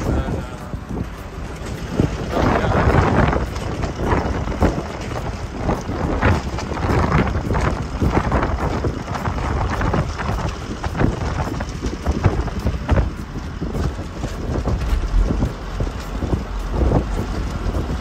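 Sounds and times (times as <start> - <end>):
road and engine rumble: 0.0 - 18.0
wind buffeting microphone: 0.0 - 18.0.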